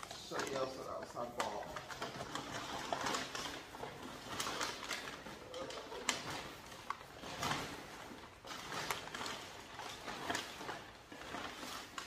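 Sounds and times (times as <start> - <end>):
wrapping rustling: 0.0 - 12.0.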